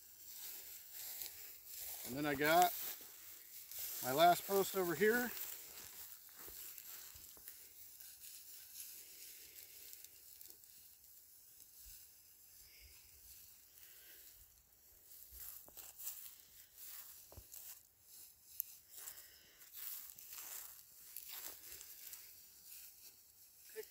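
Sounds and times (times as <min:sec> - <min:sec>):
dry grass rustling: 0:00.0 - 0:23.9.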